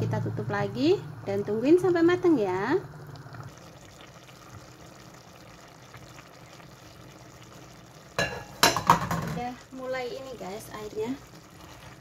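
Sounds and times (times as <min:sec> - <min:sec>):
pot bubbling on a stove: 0:00.0 - 0:12.0.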